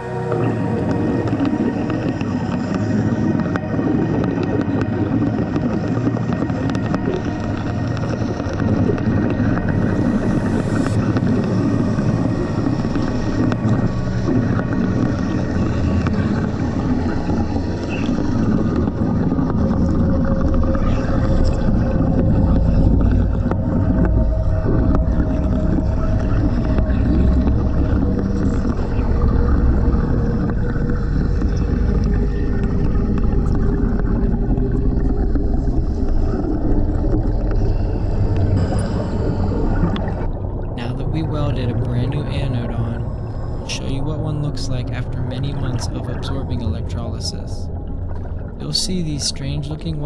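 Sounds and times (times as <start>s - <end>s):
underwater crackling and rumbling: 0.0s - 50.0s.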